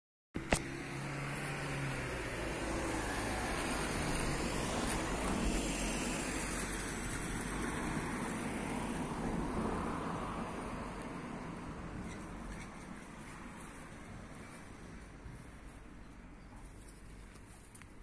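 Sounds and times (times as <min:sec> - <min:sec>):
outdoor background rumble and hiss: 0:00.4 - 0:18.0.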